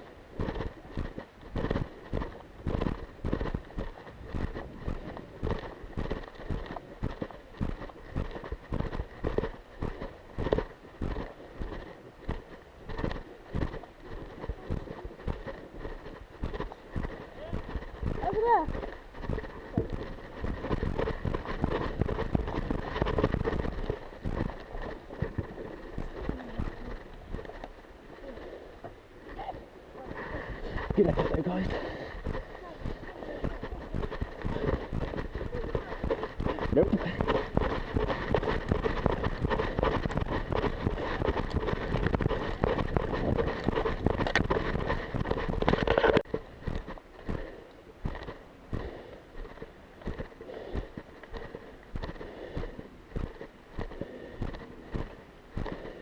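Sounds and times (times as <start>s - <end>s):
footsteps of person running: 0.0s - 28.6s, 29.3s - 56.0s
rustling and jostling: 0.0s - 56.0s
wind buffeting microphone: 0.0s - 56.0s
gear knocking against camera: 0.4s - 27.7s, 30.7s - 55.9s.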